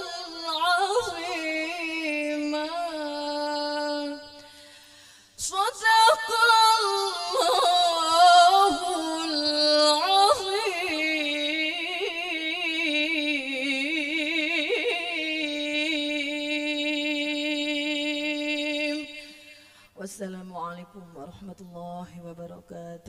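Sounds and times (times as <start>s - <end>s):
woman reciting melodically: 0.0s - 4.8s, 5.4s - 23.0s.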